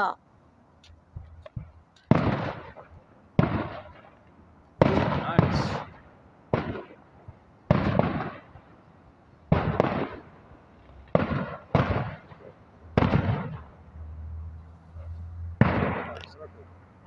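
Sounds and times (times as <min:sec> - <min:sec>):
distant fireworks booming: 0:01.2 - 0:13.9, 0:15.6 - 0:16.5.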